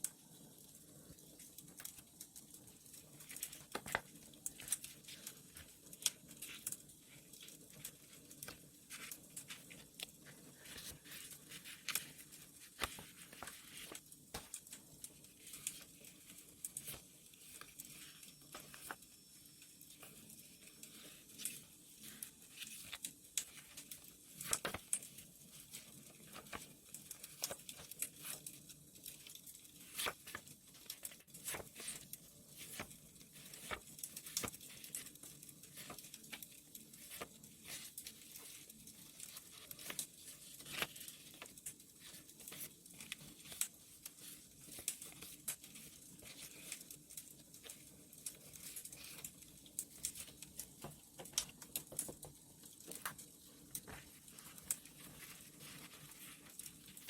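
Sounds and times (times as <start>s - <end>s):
wood fire crackling: 0.3s - 57.0s
paper being handled and torn: 3.2s - 19.0s, 20.8s - 50.8s.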